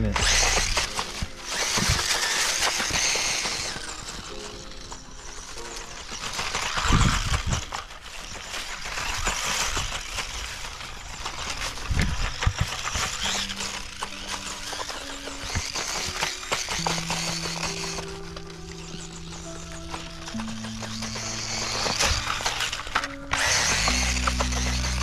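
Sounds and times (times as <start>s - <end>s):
electric motor hissing: 0.0s - 25.0s
wheels clattering over debris: 0.0s - 25.0s.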